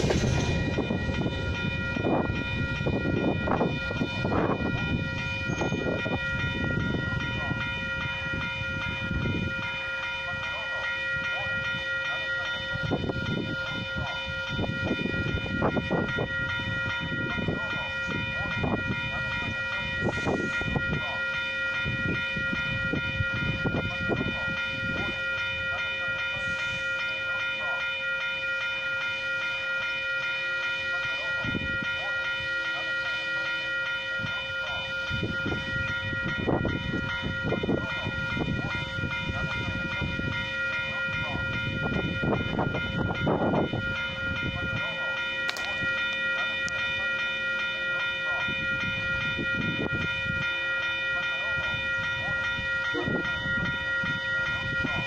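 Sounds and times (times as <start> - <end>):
level crossing alarm ringing: 0.0 - 55.0
train passing: 0.0 - 55.0.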